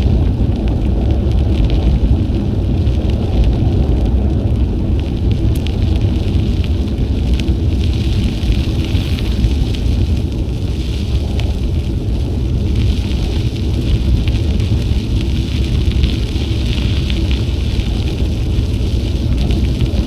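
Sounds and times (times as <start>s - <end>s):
tyres crackling on trail: 0.0s - 20.0s
wind rumbling on microphone: 0.0s - 20.0s.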